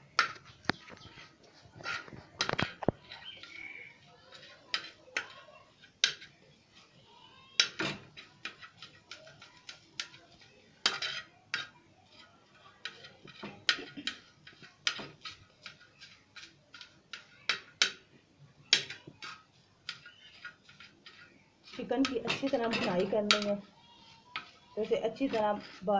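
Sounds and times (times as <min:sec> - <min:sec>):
metal utensils scraping a griddle: 0:00.1 - 0:06.8, 0:07.5 - 0:18.1, 0:18.7 - 0:25.9.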